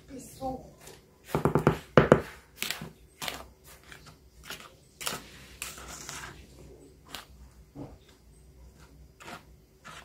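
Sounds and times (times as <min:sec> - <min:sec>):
wooden spoon scraping a bowl: 0:00.7 - 0:10.0.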